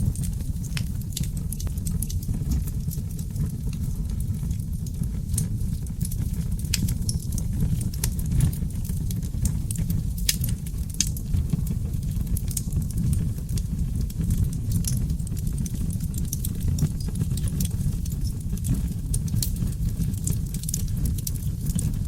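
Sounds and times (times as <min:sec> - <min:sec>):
logs crackling and popping: 0:00.0 - 0:22.0
low roar of flames: 0:00.0 - 0:22.0.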